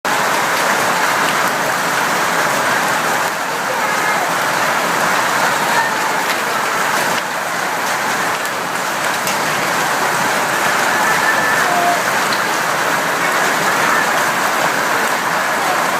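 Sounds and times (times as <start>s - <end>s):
hailstones falling hard: 0.1s - 15.9s.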